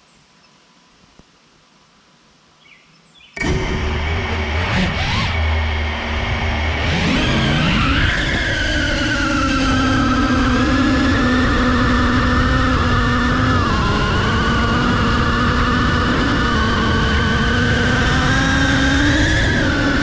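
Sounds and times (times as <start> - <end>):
quadcopter motors whining: 3.4 - 20.0.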